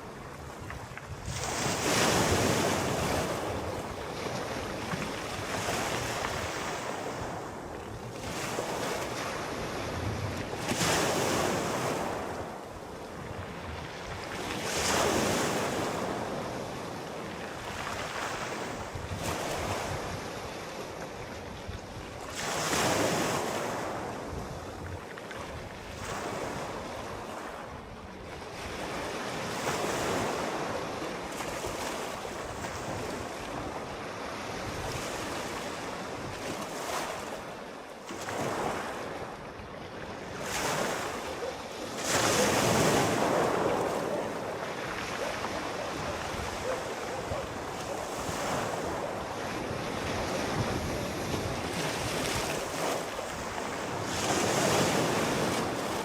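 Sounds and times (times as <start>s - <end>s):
sea waves breaking on shore: 0.0s - 56.0s
wind on microphone: 0.0s - 56.0s.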